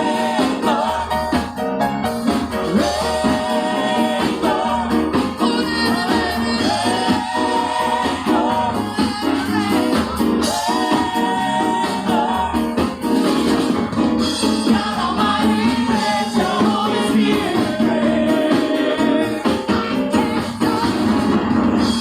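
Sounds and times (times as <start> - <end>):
full band with percussion: 0.0 - 22.0
praise team singing: 0.0 - 22.0.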